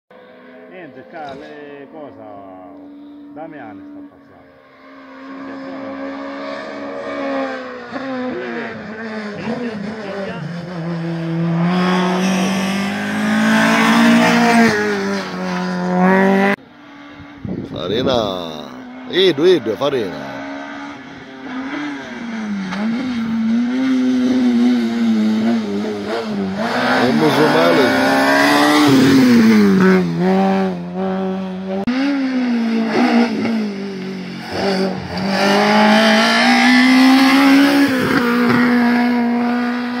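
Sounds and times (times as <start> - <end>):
rally car engine at high revs: 0.1 - 40.0.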